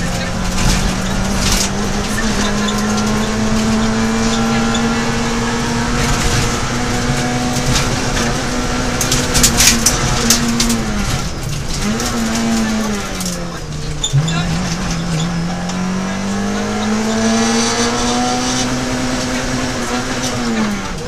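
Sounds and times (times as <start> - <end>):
car engine at high revs: 0.0 - 21.0
sharp clicks and rattles: 0.0 - 21.0.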